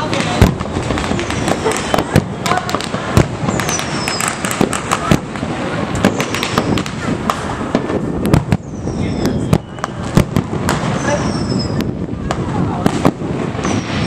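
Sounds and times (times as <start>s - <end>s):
distant fireworks reports and crackles: 0.0s - 14.0s
fireworks falling whistles: 0.0s - 14.0s.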